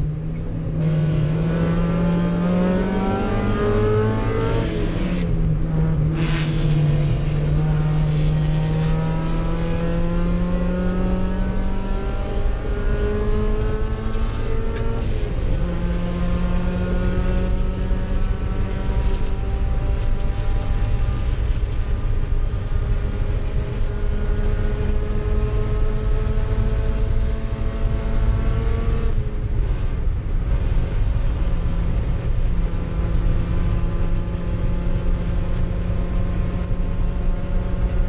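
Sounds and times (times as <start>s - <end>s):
race car engine at full throttle: 0.0s - 38.0s
road and wind noise: 0.0s - 38.0s.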